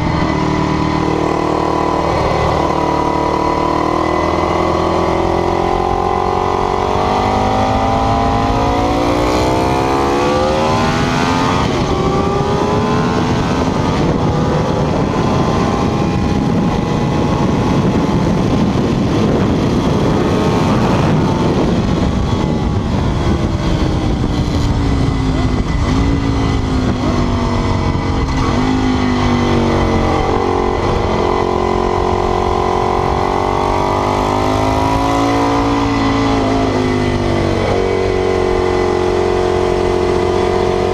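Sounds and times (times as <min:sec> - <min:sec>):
motorcycle engine revving: 0:00.0 - 0:40.9
rushing wind noise: 0:00.0 - 0:40.9.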